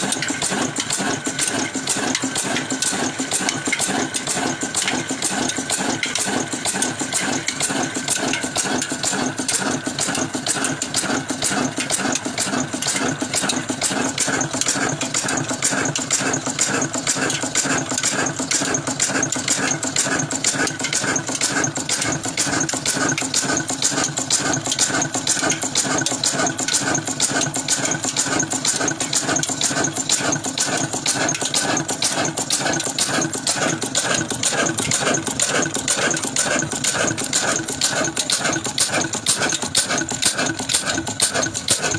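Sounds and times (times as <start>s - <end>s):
stationary diesel engine running: 0.0s - 41.9s.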